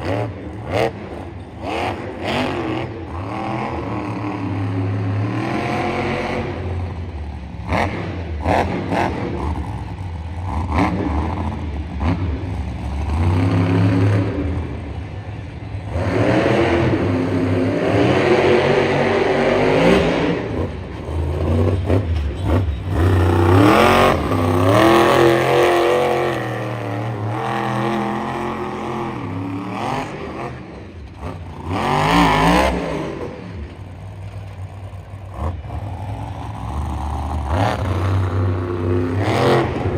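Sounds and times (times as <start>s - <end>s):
monster truck engine revving: 0.0s - 15.1s, 15.8s - 39.9s.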